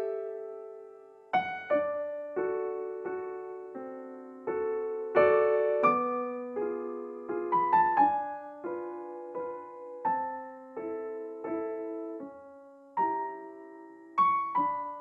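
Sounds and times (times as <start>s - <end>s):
gentle solo piano music: 0.0s - 15.0s.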